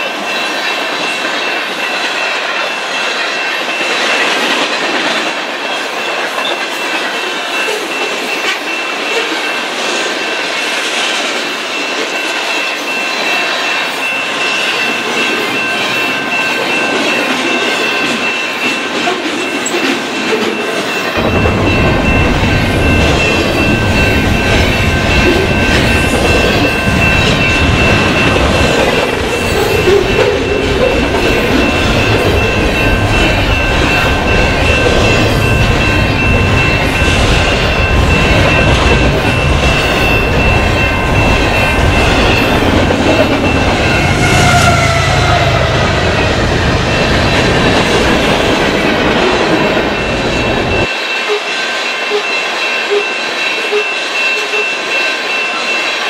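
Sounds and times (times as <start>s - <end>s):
heavy low rumble of train: 0.0s - 56.0s
high squeal from train wheels: 5.6s - 56.0s.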